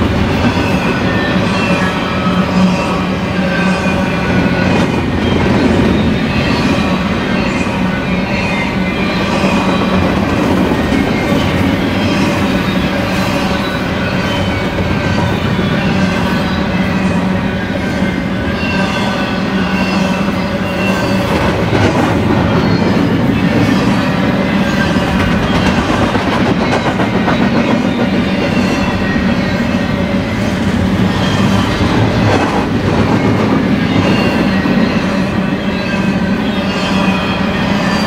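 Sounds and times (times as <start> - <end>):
high wheel squeals: 0.0 - 38.0
train wheels rumbling on rails: 0.0 - 38.0.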